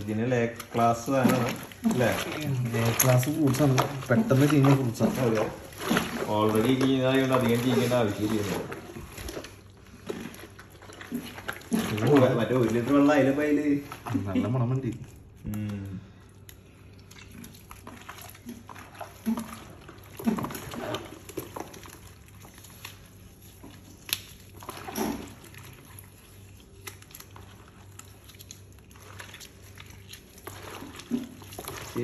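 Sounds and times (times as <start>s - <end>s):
hands squelching fruit in bowl: 0.0s - 32.0s.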